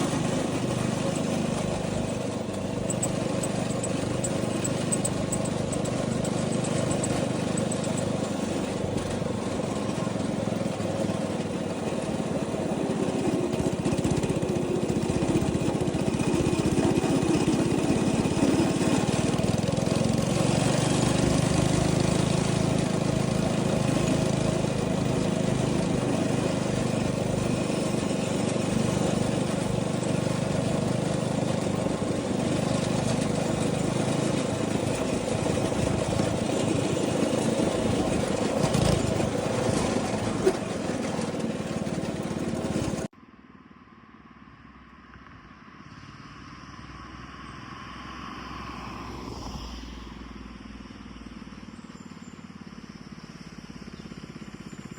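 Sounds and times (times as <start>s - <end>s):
go-kart engine running: 0.0s - 43.1s, 51.2s - 54.9s
quieter engine sound: 0.0s - 54.9s.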